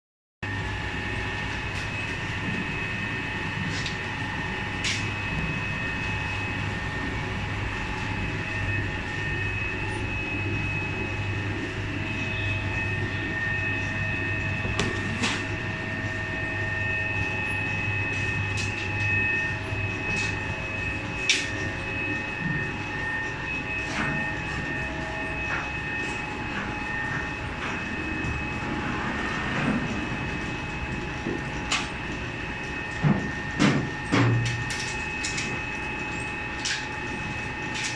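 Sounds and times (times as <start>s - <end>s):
machinery humming and whining: 0.4s - 37.9s.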